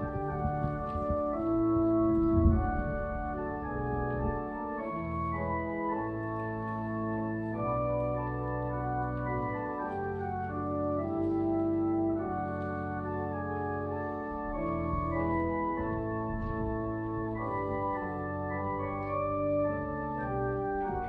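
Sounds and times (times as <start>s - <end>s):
church organ playing a hymn: 0.0s - 21.0s.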